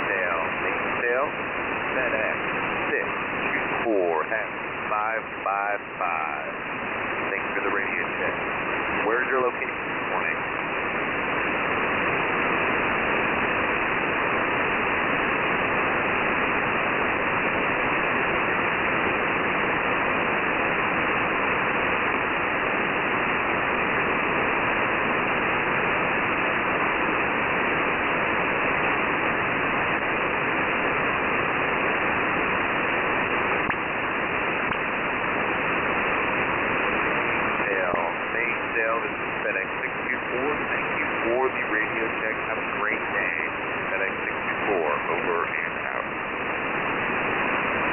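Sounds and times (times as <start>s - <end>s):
shortwave radio static hiss: 0.0s - 47.9s.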